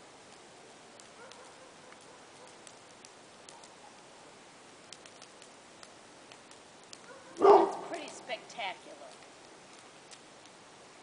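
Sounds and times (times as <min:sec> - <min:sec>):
burning vine crackling: 0:00.0 - 0:11.0.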